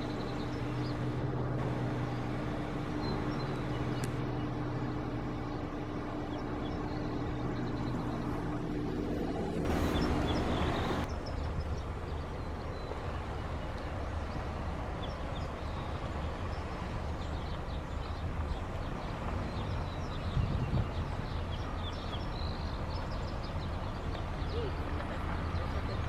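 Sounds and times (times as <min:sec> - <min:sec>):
low vehicle rumble: 0:00.0 - 0:26.0.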